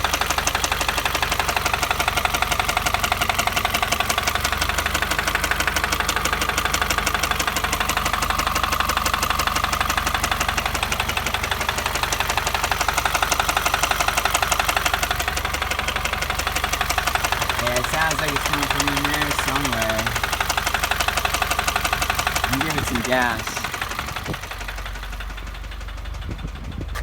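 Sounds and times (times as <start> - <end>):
car engine running: 0.0 - 27.0
engine knocking: 0.0 - 27.0.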